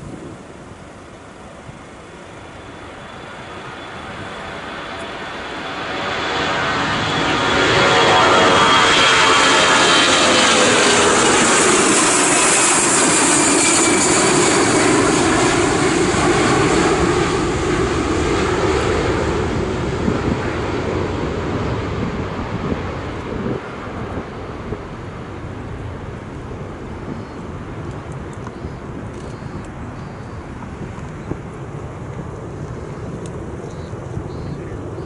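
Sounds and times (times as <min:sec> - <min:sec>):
jet airliner engines roaring: 0:00.0 - 0:35.0
falling jet whine: 0:01.7 - 0:30.6.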